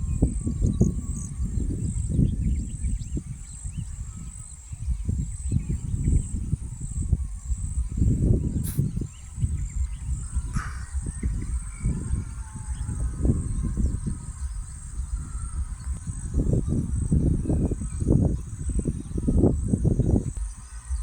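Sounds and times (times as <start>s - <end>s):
faint bird chirps: 0.0s - 21.0s
insects trilling: 0.0s - 21.0s
low rumble on microphone: 0.0s - 21.0s.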